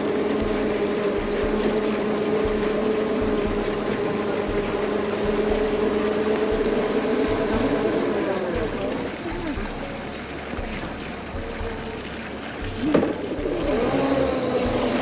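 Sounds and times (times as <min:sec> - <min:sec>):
boat engine running: 0:00.0 - 0:15.0
rush of water and air: 0:00.0 - 0:15.0.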